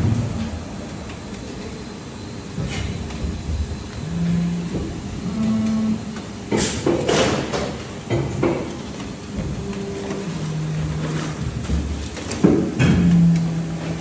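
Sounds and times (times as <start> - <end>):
hydraulic pump humming: 0.0 - 14.0.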